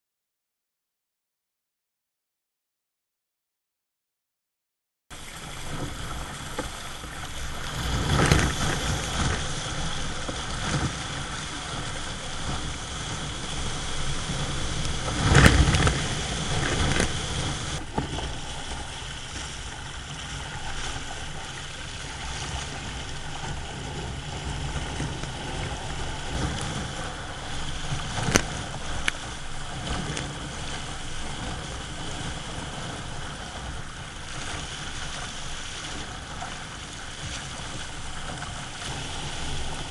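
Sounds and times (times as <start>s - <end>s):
water splashing along hull: 5.1s - 39.9s.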